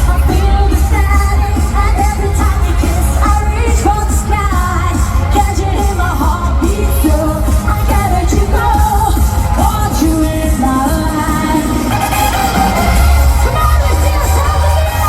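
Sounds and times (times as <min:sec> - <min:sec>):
loud dance pop music with singing: 0:00.0 - 0:15.0.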